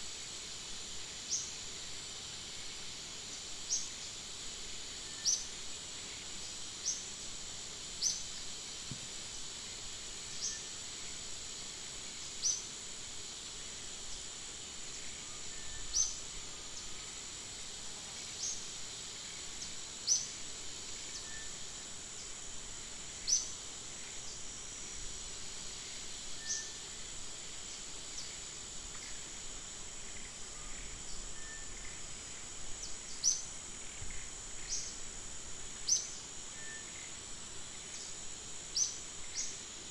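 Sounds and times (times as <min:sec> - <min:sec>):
insect drone: 0:00.0 - 0:39.9
soft hiss: 0:00.0 - 0:39.9.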